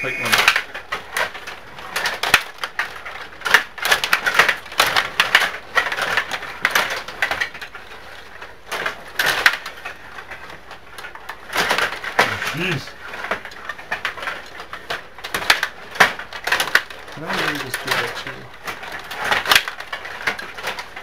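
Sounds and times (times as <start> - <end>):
table hockey rods clacking: 0.0 - 21.0.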